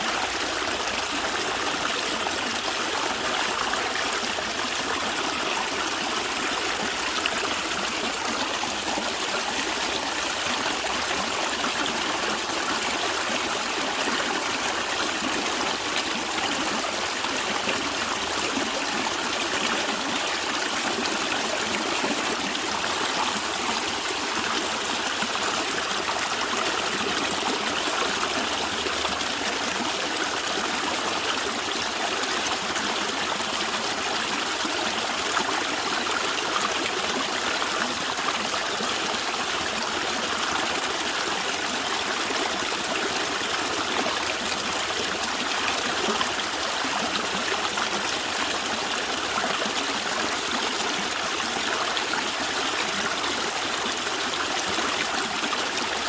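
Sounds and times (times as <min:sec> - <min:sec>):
stream gurgling: 0:00.0 - 0:56.0.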